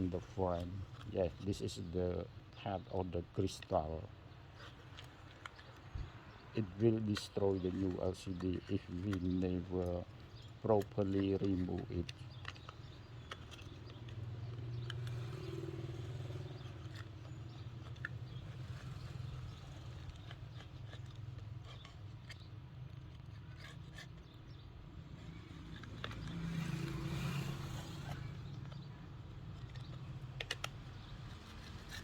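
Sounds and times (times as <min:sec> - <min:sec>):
small tool scraping phone frame: 0:04.5 - 0:32.0.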